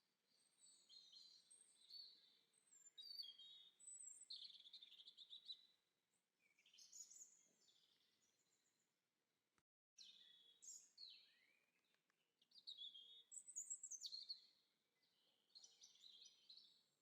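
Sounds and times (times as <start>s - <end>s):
faint songbirds chirping: 0.0s - 9.2s, 10.0s - 17.0s.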